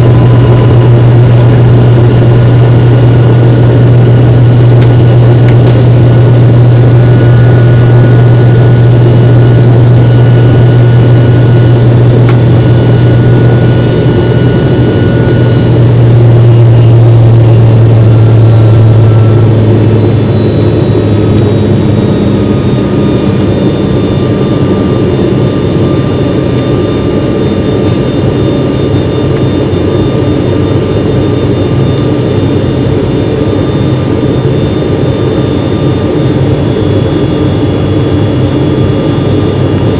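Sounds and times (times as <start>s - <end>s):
aircraft engine drone in cabin: 0.0s - 39.9s
faint engine whining tones: 0.0s - 39.9s.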